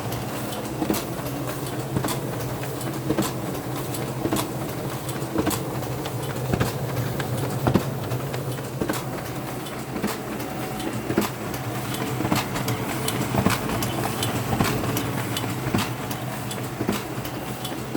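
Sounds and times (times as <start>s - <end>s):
printer humming: 0.0s - 17.9s.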